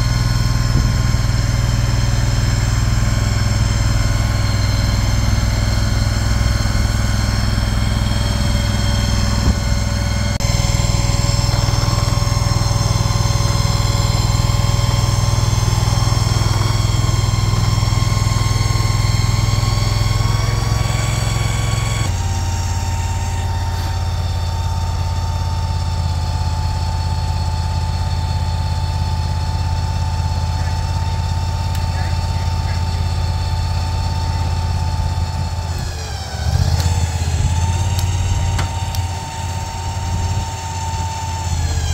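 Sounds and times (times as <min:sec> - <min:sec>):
machine engine running: 0:00.0 - 0:41.9.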